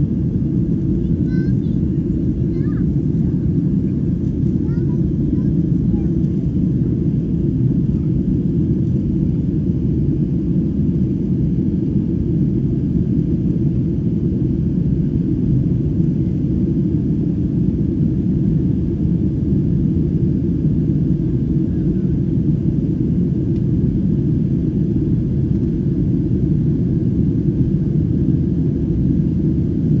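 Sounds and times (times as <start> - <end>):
airliner engines rumbling: 0.0 - 30.0.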